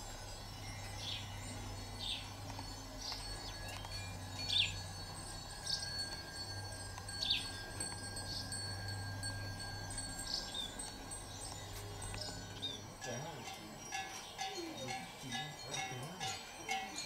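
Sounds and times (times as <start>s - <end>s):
small metal bells tinkling: 0.0s - 17.0s.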